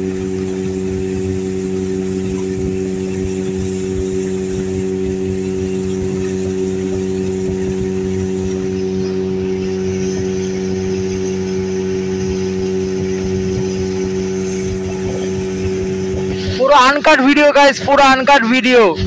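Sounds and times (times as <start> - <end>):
hiss of water and wind: 0.0 - 19.0
motorboat engine running: 0.0 - 19.0.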